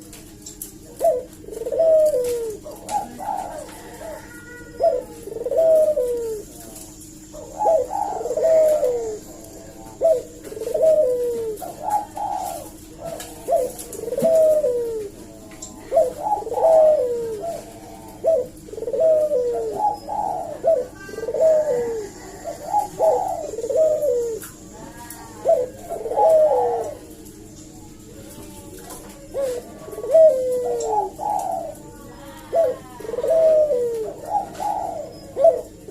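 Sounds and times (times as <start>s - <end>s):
dove cooing: 0.0s - 35.9s
faint steady hum: 0.0s - 35.9s.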